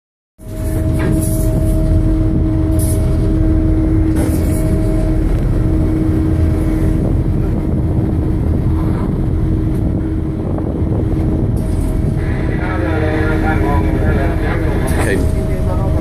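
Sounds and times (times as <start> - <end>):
diesel engine rumbling: 0.4 - 16.0.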